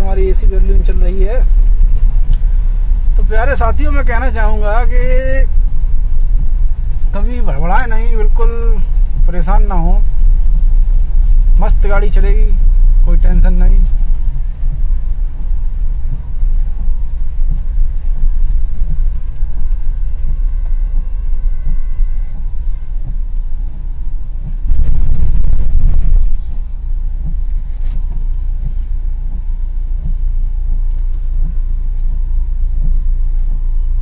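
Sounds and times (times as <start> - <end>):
car engine and tyres on wet road: 0.0 - 34.0
rushing noise: 0.0 - 34.0.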